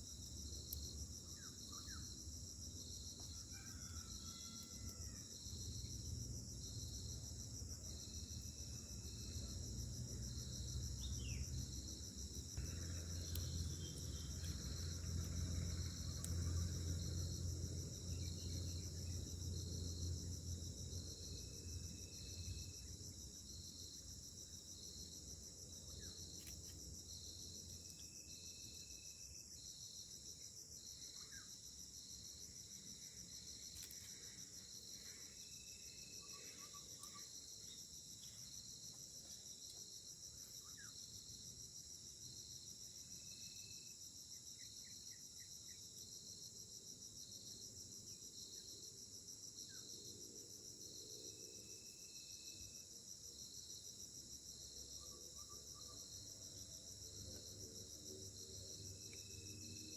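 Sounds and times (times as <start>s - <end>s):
insect chirp pulsing: 0.0s - 59.9s
insect chorus drone: 0.0s - 59.9s.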